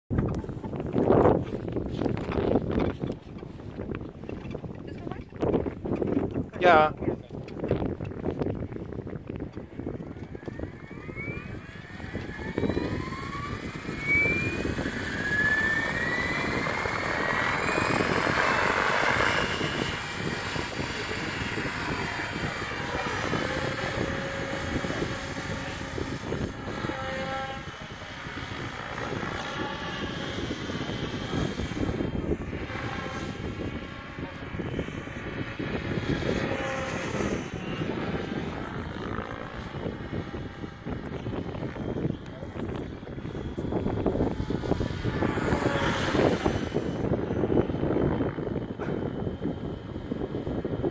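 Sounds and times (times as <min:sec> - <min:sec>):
rc helicopter motor and rotor whine: 0:00.2 - 0:50.9.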